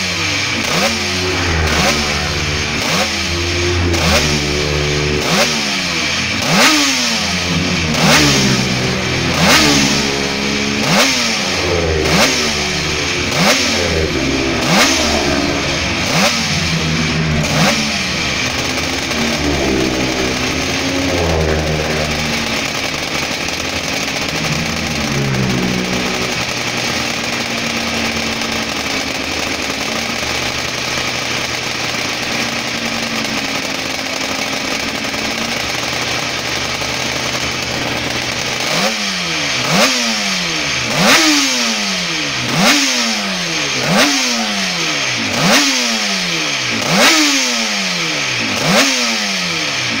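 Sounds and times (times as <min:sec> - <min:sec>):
two-stroke motorcycle engine revving: 0:00.0 - 0:50.0.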